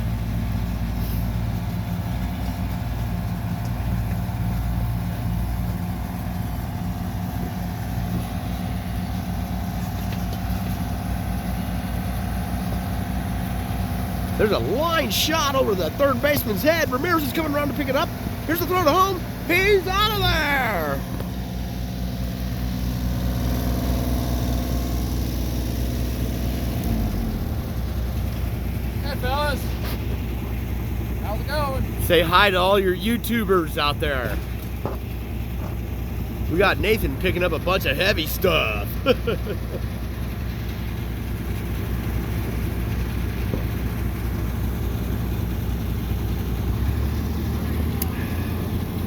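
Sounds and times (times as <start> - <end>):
machine engine running: 0.9 - 49.0.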